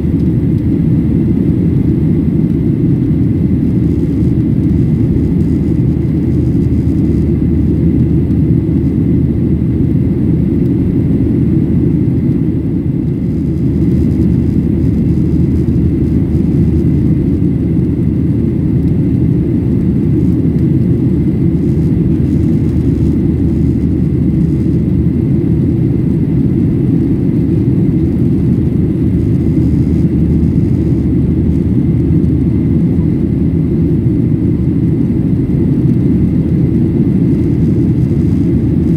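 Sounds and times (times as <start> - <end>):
jet engine rumble: 0.0 - 38.9.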